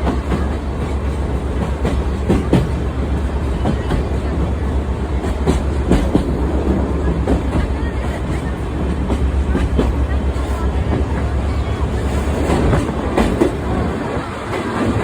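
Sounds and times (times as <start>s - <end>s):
train low rumble: 0.0s - 15.0s
wheels clacking over rail joints: 0.0s - 15.0s.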